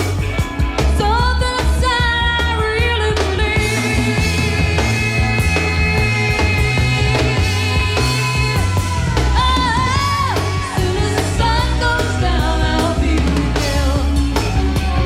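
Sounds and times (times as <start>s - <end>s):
live rock band playing: 0.0s - 15.0s
person singing: 1.0s - 15.0s.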